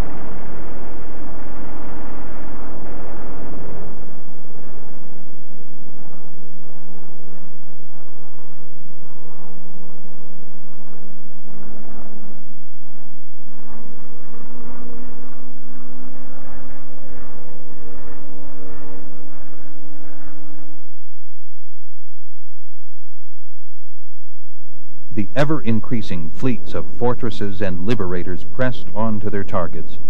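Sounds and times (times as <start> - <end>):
propeller aircraft engine droning: 0.0 - 22.6, 25.1 - 29.9.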